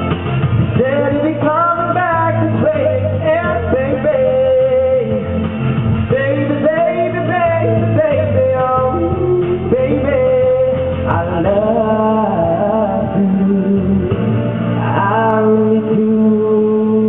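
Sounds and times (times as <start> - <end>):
instrumental accompaniment: 0.0 - 17.0
person singing: 0.7 - 17.0.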